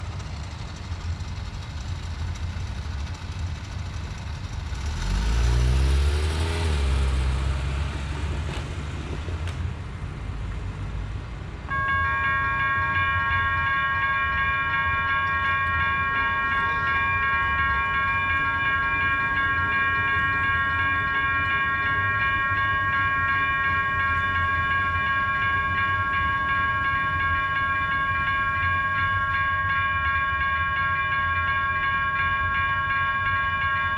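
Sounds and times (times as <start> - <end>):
railroad crossing bells ringing: 0.0 - 8.4, 11.6 - 33.9
road vehicle rumbling past: 0.0 - 30.1.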